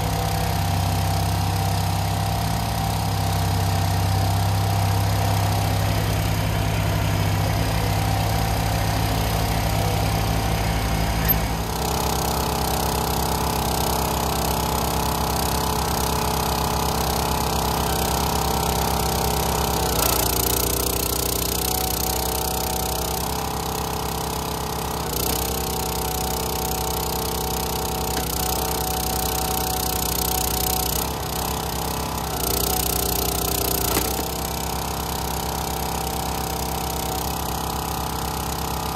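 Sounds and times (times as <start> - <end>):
log splitter engine running: 0.0 - 38.9
tractor diesel engine running: 0.0 - 38.9.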